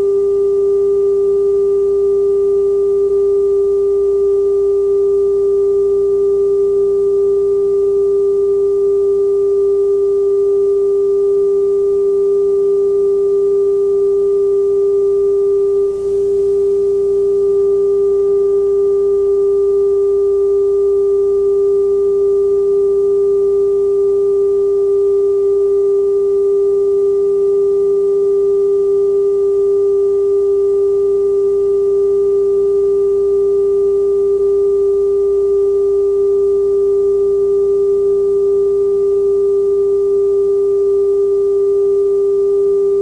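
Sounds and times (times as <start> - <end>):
steady pure test tone: 0.0 - 43.0.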